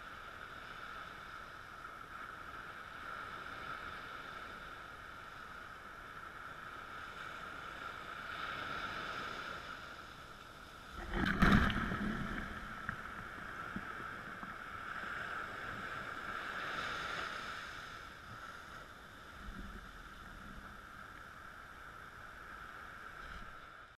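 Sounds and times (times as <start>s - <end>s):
waves breaking on sand beach: 0.0s - 23.9s
wave splashing near microphone: 0.0s - 24.0s.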